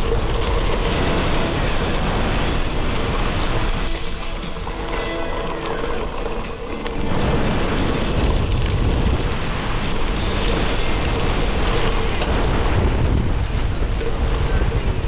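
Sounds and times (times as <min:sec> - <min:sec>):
bike tyres rolling on gravel: 0:00.0 - 0:15.0
wind buffeting microphone: 0:00.0 - 0:15.0.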